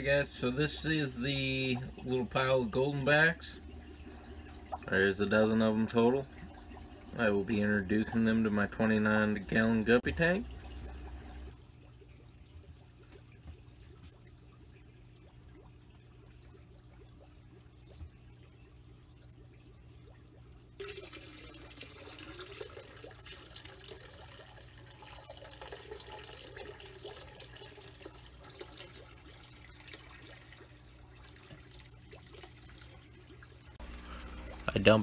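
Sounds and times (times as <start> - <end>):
low steady hum: 0.0 - 35.0
water pouring and splashing: 0.1 - 35.0.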